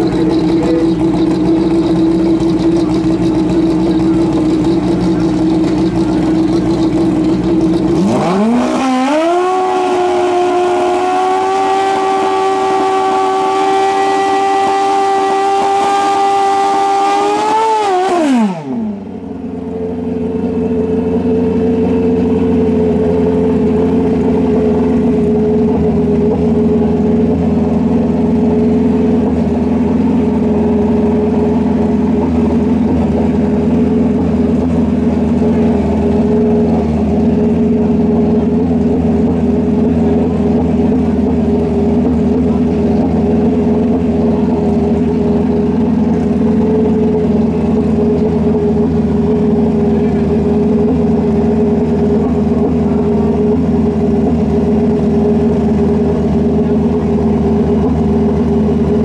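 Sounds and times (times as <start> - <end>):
low engine drone: 0.0 - 59.0
motorcycle engine revving high: 0.0 - 59.0.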